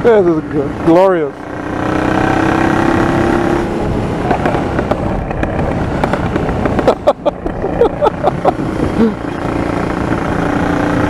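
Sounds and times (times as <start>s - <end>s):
motorcycle engine backfiring: 0.8s - 11.0s.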